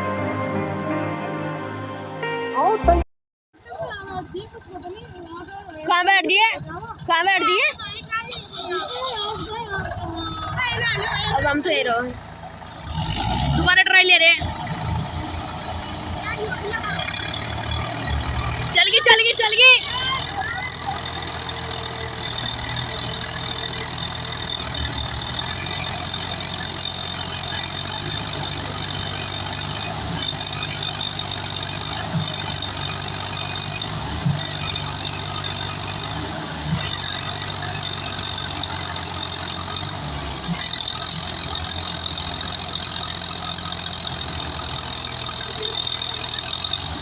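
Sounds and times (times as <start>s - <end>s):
tractor diesel engines under load: 0.0s - 3.0s, 3.6s - 47.0s.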